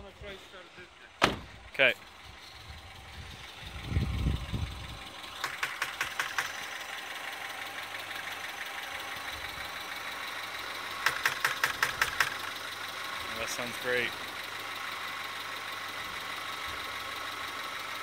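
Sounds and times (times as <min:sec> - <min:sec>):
car engine starting and idling: 0:00.0 - 0:18.0
light engine ticks: 0:02.7 - 0:18.0.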